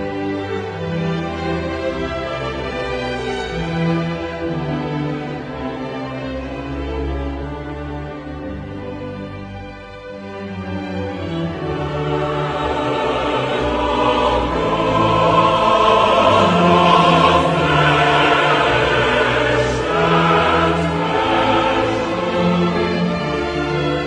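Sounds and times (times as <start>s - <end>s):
choir singing with orchestra: 0.0s - 24.0s.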